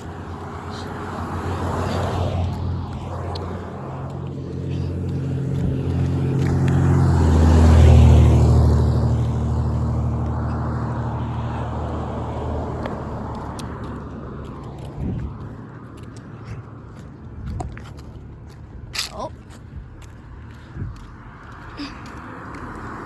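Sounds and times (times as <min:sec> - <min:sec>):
vehicle engine passing: 0:00.0 - 0:23.0.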